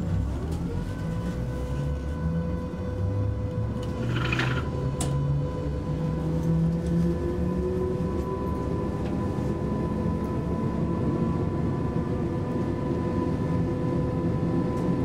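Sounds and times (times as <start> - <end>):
traction motor whine: 0.0 - 15.0.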